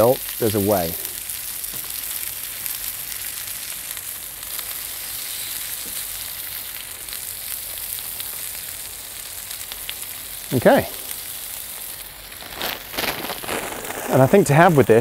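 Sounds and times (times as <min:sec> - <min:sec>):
steak sizzling on a grill plate: 0:00.0 - 0:15.0.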